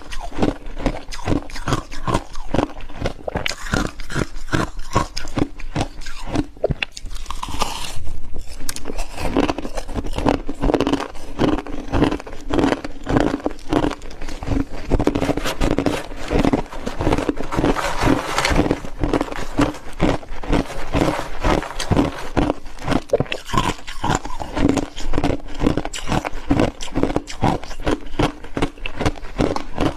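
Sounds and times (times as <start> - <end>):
person chewing crunchy frost: 0.0 - 29.9.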